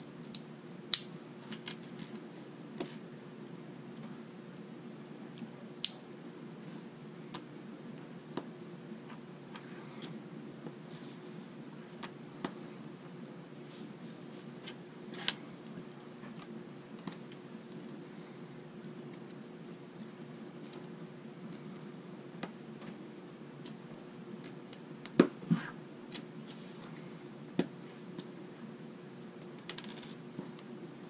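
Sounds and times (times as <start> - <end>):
faint household hum: 0.0 - 31.0.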